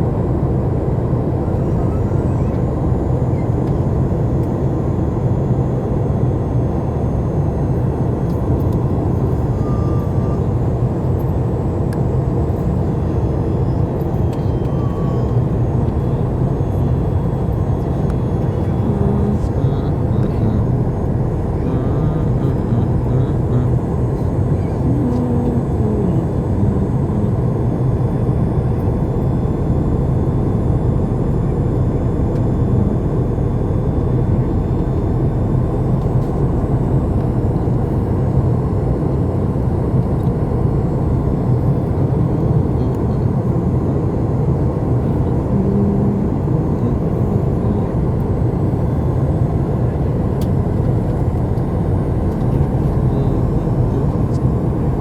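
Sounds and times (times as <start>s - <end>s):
airliner cabin engine drone: 0.0s - 55.0s.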